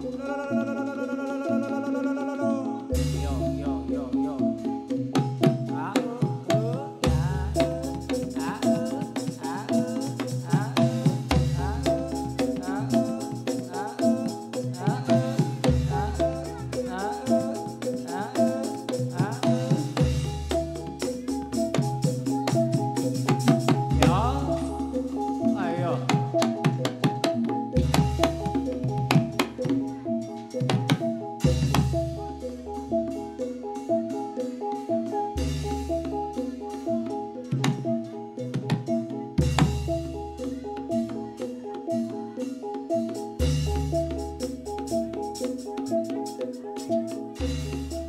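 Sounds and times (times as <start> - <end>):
gamelan ensemble: 0.0 - 48.0.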